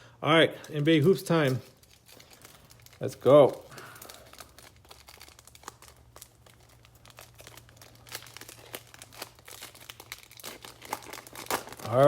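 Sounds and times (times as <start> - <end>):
plastic wrapper crinkling: 0.6 - 12.0.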